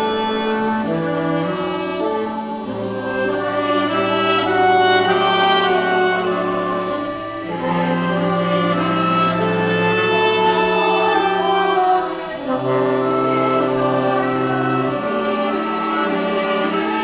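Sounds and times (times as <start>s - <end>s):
choir singing sustained chords: 0.0s - 17.0s
saxophone ensemble: 0.0s - 17.0s.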